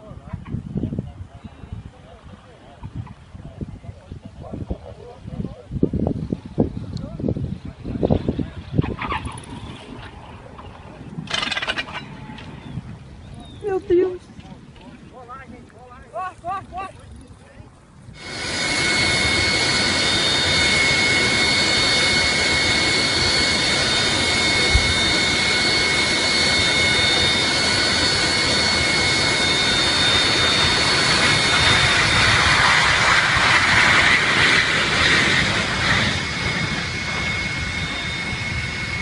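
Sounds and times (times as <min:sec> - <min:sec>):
jet engines roaring and whining: 0:00.0 - 0:39.0.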